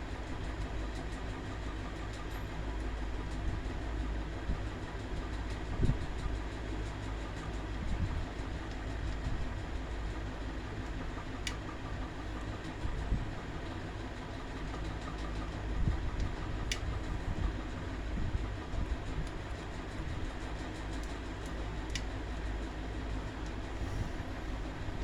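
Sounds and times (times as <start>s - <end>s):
electric fan motor humming: 0.0s - 25.0s.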